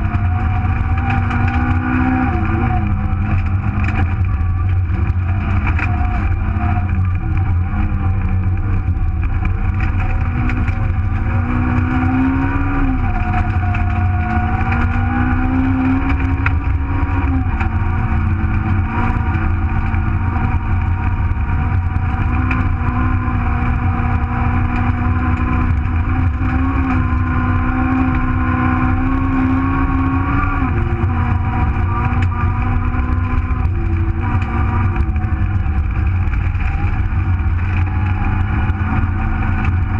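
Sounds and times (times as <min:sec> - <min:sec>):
car engine revving: 0:00.0 - 0:39.9
road and tyre noise: 0:00.0 - 0:39.9.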